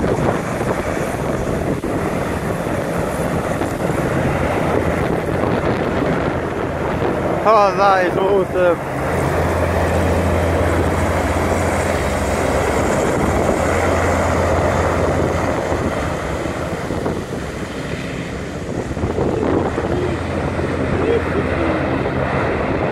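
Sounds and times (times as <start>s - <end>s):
hovercraft engine drone: 0.0s - 22.9s
rush of air: 0.0s - 22.9s.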